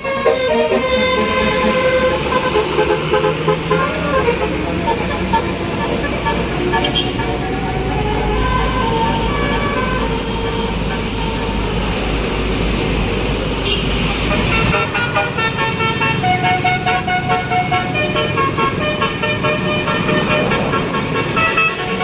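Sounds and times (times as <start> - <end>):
multi-tone air horn tune: 0.0 - 12.6, 13.6 - 22.0
road and traffic noise: 0.0 - 22.0.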